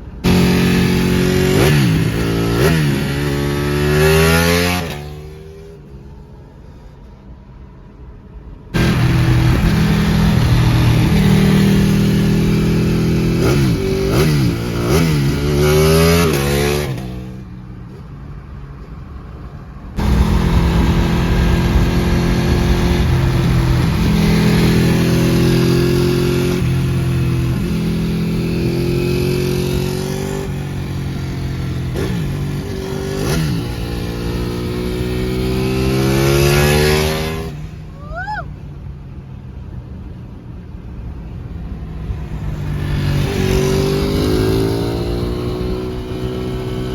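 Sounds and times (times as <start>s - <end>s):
motorcycle engine accelerating: 0.0s - 6.2s, 8.8s - 18.0s, 20.0s - 37.8s, 42.2s - 46.9s.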